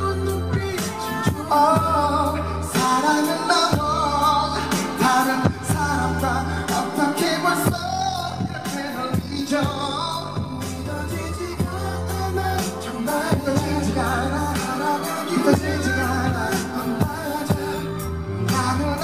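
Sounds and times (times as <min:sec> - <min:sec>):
man singing into a microphone: 0:00.0 - 0:19.0
pop backing track with deep bass: 0:00.0 - 0:19.0.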